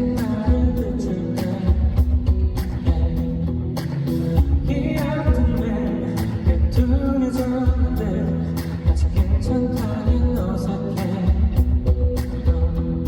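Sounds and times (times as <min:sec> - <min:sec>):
live band playing pop-rock ballad: 0:00.0 - 0:13.0
man singing: 0:00.0 - 0:13.0.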